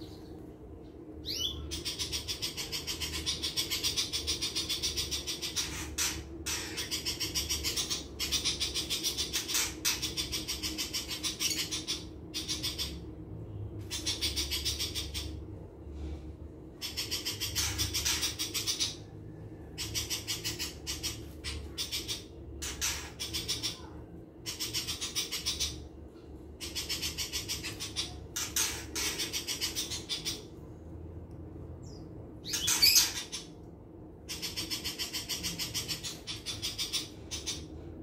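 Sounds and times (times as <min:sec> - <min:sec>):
bird chattering song: 0:01.2 - 0:13.0, 0:13.8 - 0:15.4, 0:16.8 - 0:19.1, 0:19.8 - 0:25.9, 0:26.6 - 0:30.6, 0:31.8 - 0:33.6, 0:34.3 - 0:37.7.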